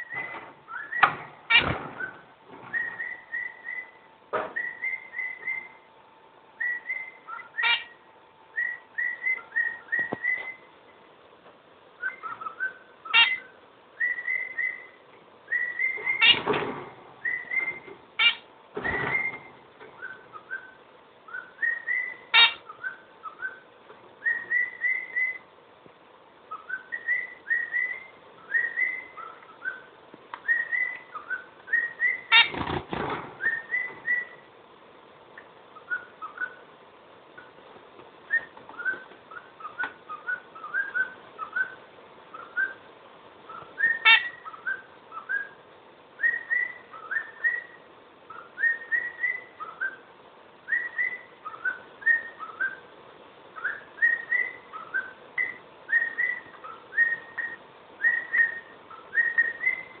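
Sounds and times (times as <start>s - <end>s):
bird whistling: 0.0s - 5.8s, 6.6s - 10.7s, 12.0s - 16.4s, 17.2s - 25.4s, 26.5s - 32.6s, 33.4s - 34.5s, 35.8s - 36.7s, 38.3s - 42.9s, 43.5s - 45.6s, 46.2s - 50.0s, 50.7s - 52.9s, 53.6s - 60.0s.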